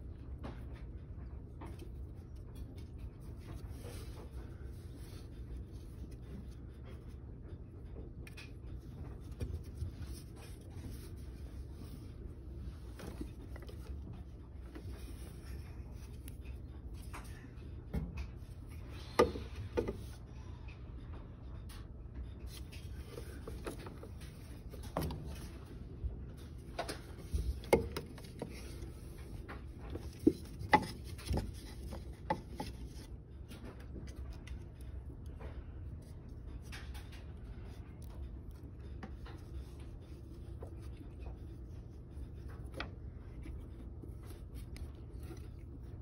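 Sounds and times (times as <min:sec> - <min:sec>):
rubbing and clicks on plastic pipes: 0:00.0 - 0:20.2, 0:22.4 - 0:46.0
steady low hum: 0:00.0 - 0:46.0.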